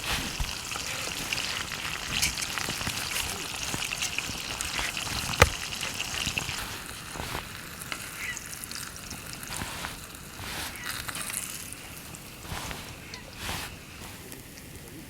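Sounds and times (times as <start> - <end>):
campfire sizzling and crackling: 0.0 - 15.0.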